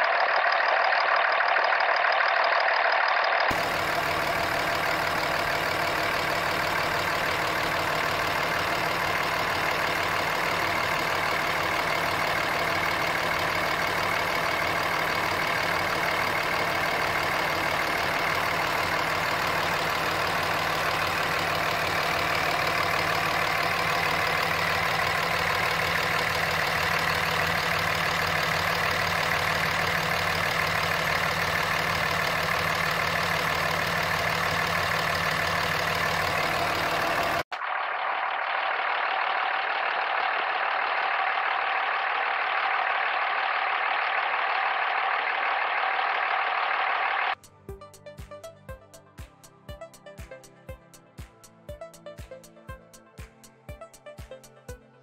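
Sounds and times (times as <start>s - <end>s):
diesel engine idling: 0.0s - 47.6s.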